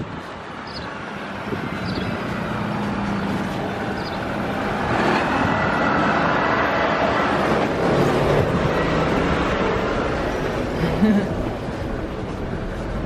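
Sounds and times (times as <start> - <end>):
dump truck engine approaching: 0.0 - 13.0.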